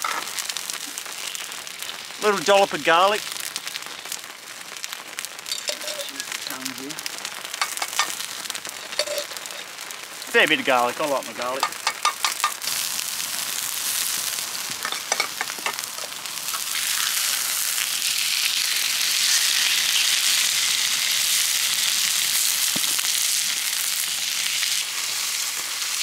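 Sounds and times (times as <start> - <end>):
food sizzling on a hotplate: 0.0 - 26.0.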